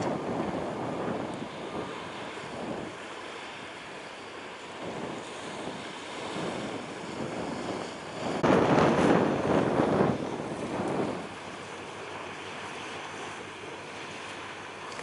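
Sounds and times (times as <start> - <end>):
waves: 0.0 - 15.0
wind: 0.0 - 15.0.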